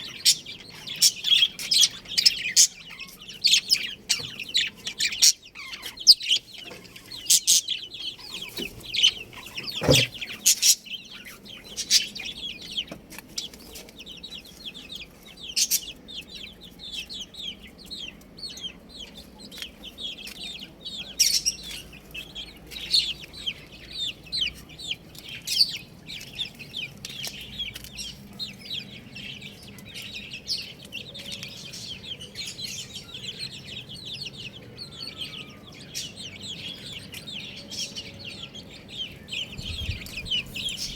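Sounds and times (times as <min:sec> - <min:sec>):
chicks peeping and chirping: 0:00.0 - 0:40.9.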